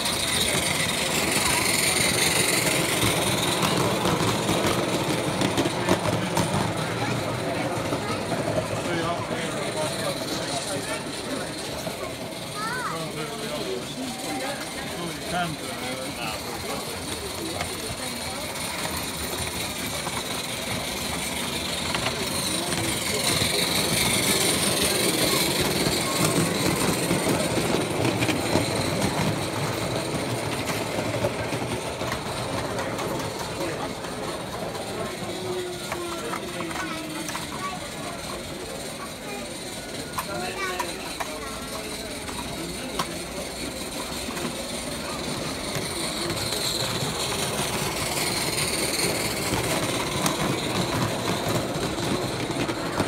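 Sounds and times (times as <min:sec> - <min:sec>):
small wheels rattling over track: 0:00.0 - 0:53.0
steam exhaust: 0:00.0 - 0:53.0.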